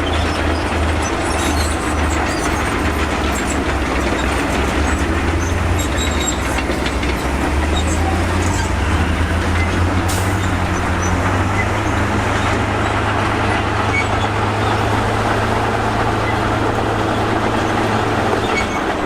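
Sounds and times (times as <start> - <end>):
bulldozer diesel engine running: 0.0 - 19.0
steel tracks clanking: 0.0 - 19.0.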